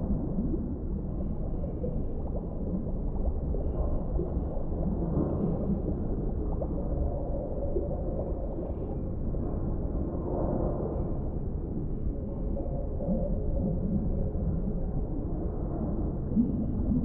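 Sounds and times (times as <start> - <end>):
faint bubbling: 0.0 - 10.1, 10.9 - 17.0
low underwater rumble: 0.0 - 17.0.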